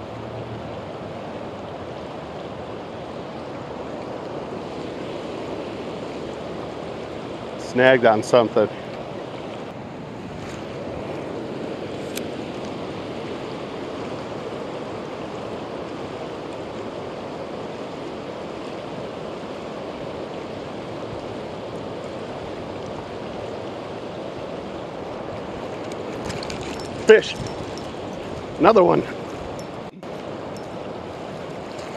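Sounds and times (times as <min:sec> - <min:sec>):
river rushing: 0:00.0 - 0:31.9.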